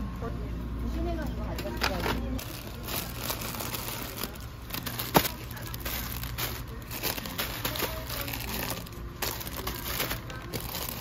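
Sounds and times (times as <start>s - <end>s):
plastic packets crinkling: 1.9s - 11.0s.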